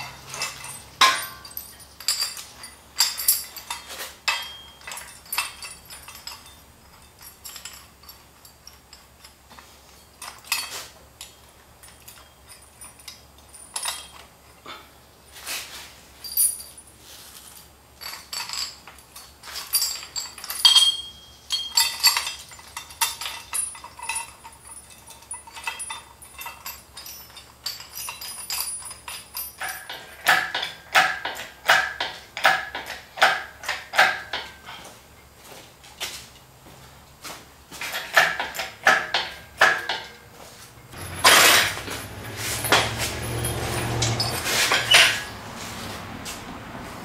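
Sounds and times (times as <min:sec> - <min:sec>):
metal tools clanking: 0:00.0 - 0:36.6, 0:37.7 - 0:46.4.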